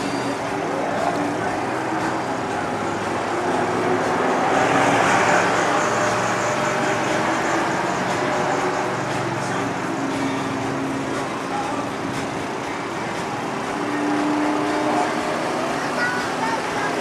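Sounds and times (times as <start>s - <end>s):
engines and traffic noise: 0.0s - 17.0s
low engine tones: 0.0s - 17.0s.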